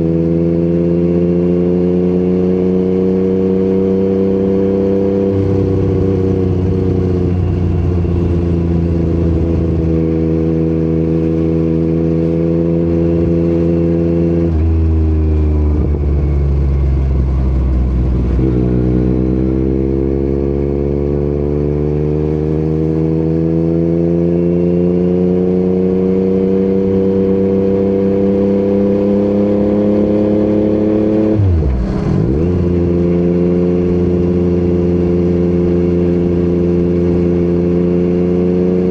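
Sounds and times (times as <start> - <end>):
motorcycle engine on the road: 0.0 - 38.9.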